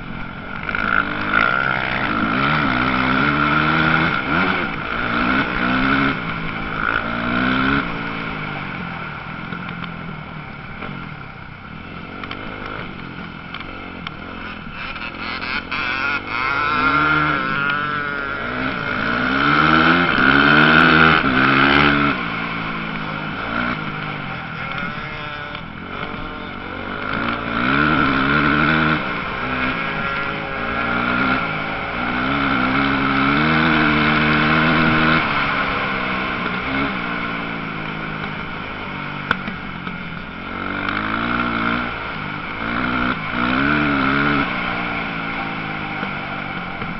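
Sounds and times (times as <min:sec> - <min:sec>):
motocross motorcycle engines revving: 0:00.0 - 0:46.9.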